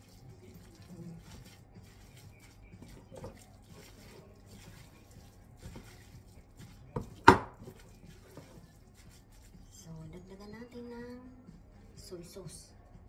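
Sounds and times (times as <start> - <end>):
soft mixing of moist filling: 0.0 - 13.0.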